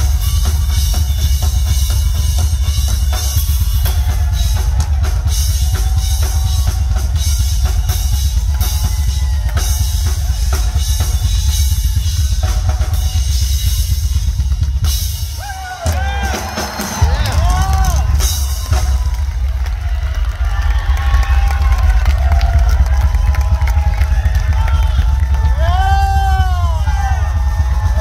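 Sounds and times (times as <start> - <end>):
rock drum kit playing: 0.0 - 28.0.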